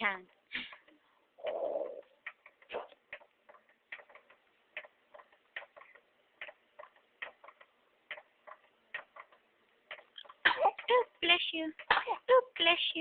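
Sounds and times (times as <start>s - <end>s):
faint regular ticking: 0.0s - 13.0s.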